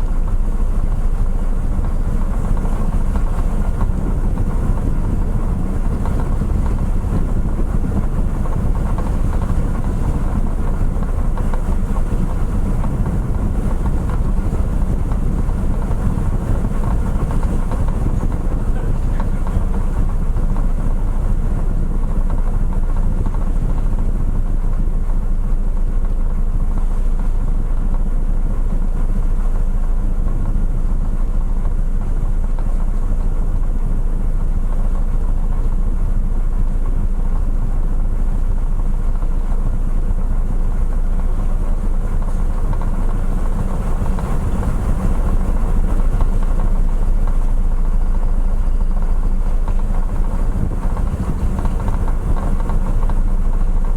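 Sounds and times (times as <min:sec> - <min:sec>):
ship engines droning: 0:00.0 - 0:53.9
wind: 0:00.0 - 0:53.9.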